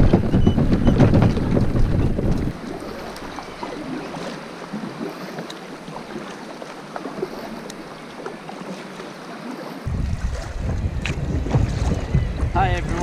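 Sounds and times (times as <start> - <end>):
water lapping against kayak hull: 0.0 - 13.0.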